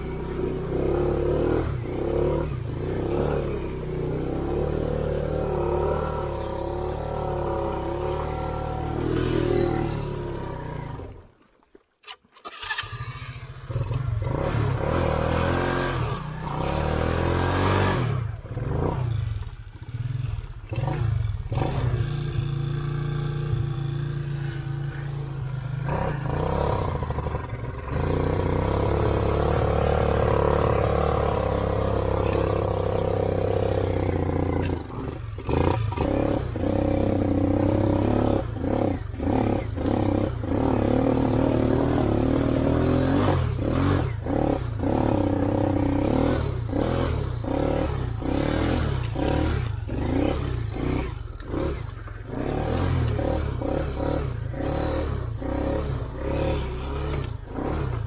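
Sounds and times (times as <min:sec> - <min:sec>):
motorcycle engine revving: 0:00.0 - 0:11.4, 0:12.0 - 0:58.0.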